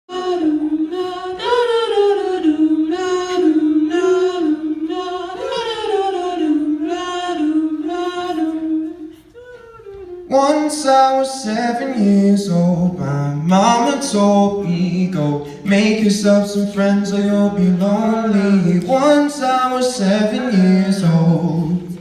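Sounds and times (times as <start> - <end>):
vocal group singing harmonies: 0.1 - 22.0.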